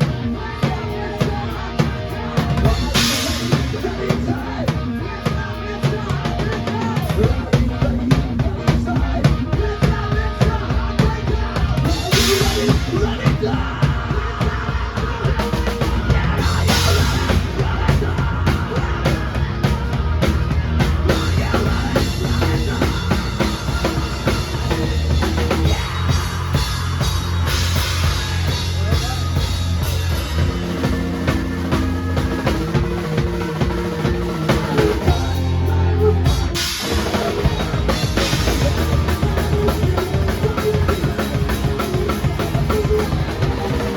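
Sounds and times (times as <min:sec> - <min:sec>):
backing track music: 0:00.0 - 0:43.9
drum kit beat: 0:00.0 - 0:43.9.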